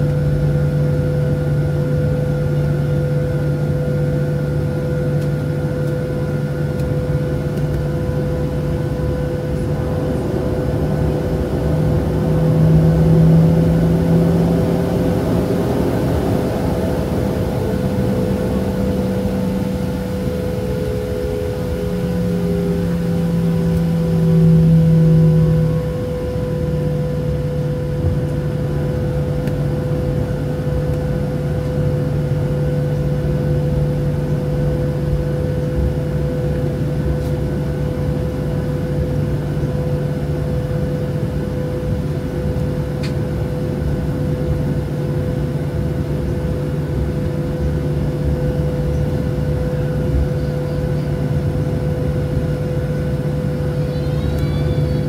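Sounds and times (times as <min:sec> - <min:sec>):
jet engines humming: 0:00.0 - 0:55.0.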